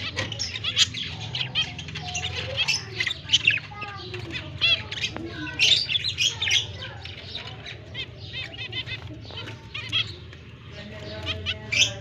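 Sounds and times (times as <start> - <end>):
lovebirds chirping and squawking: 0.0 - 12.0.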